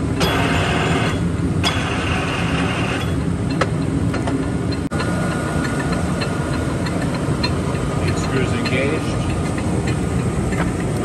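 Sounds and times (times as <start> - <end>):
lathe mechanical hum: 0.0 - 11.0
steady whine: 0.0 - 11.0.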